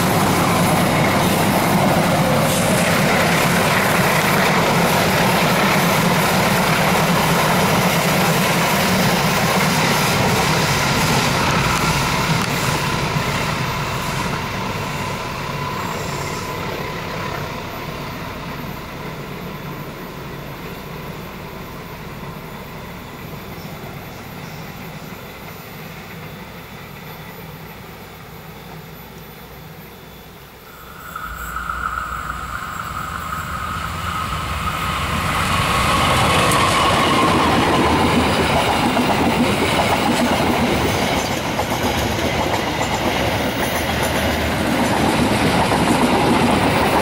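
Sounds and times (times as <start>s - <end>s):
train wheels rumbling on rail: 0.0s - 29.9s, 30.6s - 47.0s.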